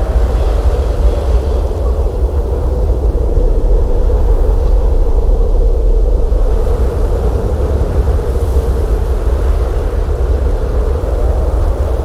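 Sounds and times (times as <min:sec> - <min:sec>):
blizzard wind howling: 0:00.0 - 0:12.0
deep rumble: 0:00.0 - 0:12.0.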